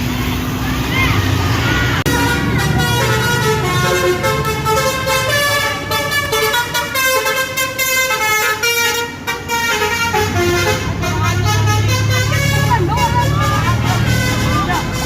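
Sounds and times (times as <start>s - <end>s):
bus engine running: 0.0s - 15.0s
multi-tone horn tune: 2.1s - 15.0s.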